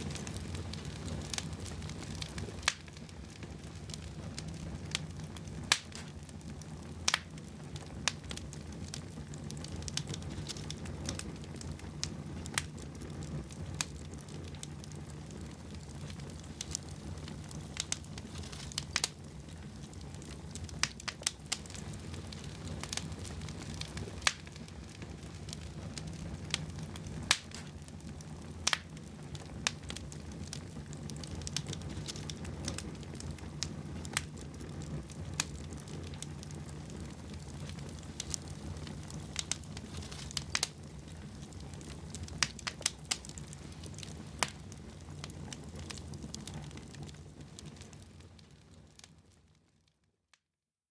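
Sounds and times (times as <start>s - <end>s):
low rumble of flame: 0.0s - 49.9s
fire crackling and popping: 0.0s - 50.4s.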